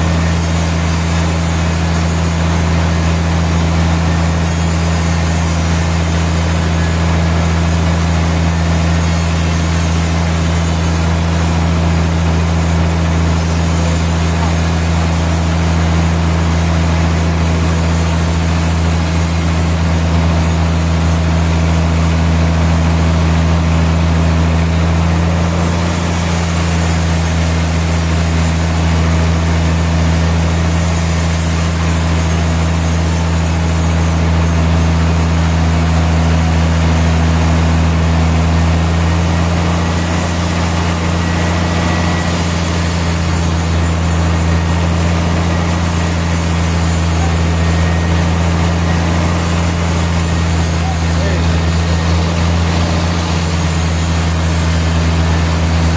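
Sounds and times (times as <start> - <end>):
sawmill machinery running: 0.0 - 55.9.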